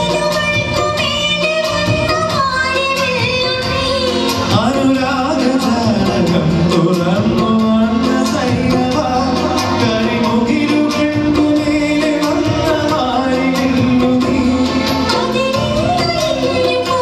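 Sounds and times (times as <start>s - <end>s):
quick percussion beat: 0.0s - 17.0s.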